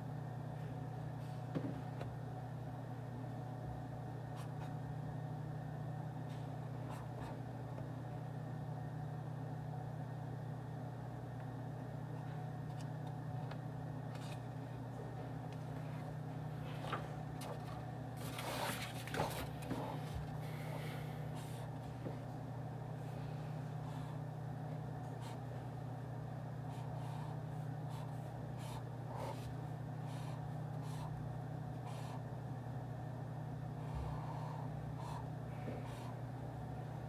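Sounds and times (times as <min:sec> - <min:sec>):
ventilation hum: 0:00.0 - 0:37.0.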